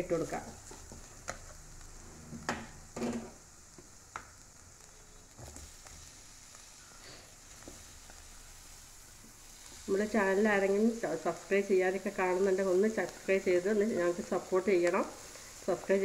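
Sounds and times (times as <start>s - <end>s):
faint sizzle: 0.0s - 16.0s.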